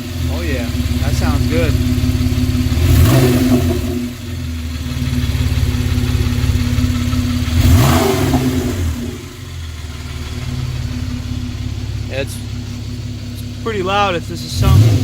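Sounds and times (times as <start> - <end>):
engine throttle blip: 0.0 - 15.0
loud throaty engine idling: 0.0 - 15.0.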